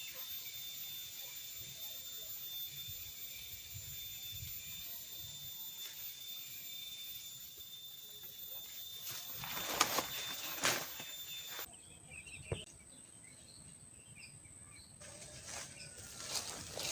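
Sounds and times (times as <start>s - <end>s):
insect drone: 0.0s - 11.7s, 15.0s - 16.9s.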